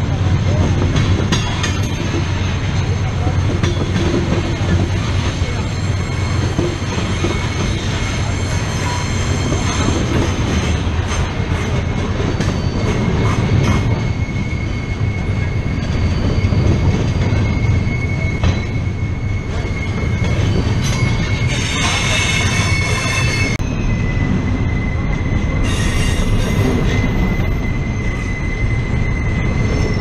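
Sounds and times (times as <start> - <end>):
freight train wheels rumbling: 0.0 - 30.0
high wheel squeal: 1.3 - 30.0.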